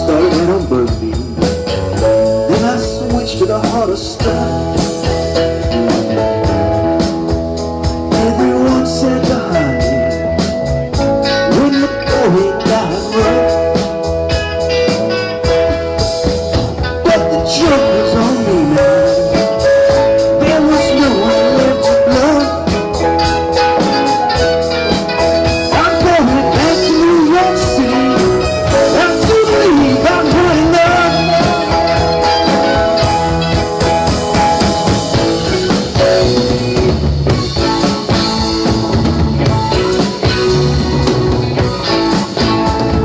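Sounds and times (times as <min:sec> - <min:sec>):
bass guitar: 0:00.0 - 0:43.0
drum kit: 0:00.0 - 0:43.0
electric guitar lead: 0:00.0 - 0:43.0
electric organ: 0:00.0 - 0:43.0.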